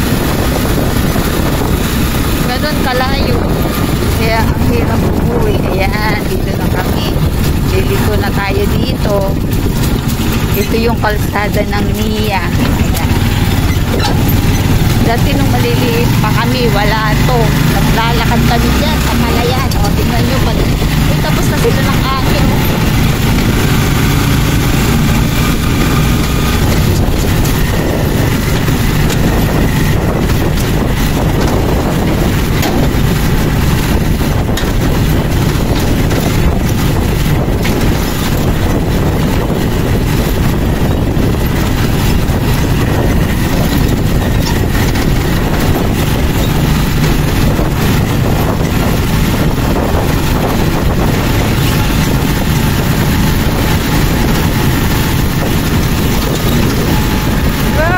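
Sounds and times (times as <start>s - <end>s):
cab rattling over bumps: 0.0s - 57.9s
motorcycle engine drone: 0.0s - 57.9s
wind noise: 0.0s - 57.9s.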